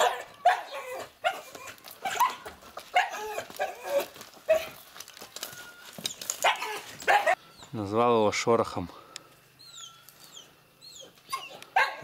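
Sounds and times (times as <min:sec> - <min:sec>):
dogs yipping and whining: 0:00.0 - 0:07.4, 0:09.6 - 0:12.0.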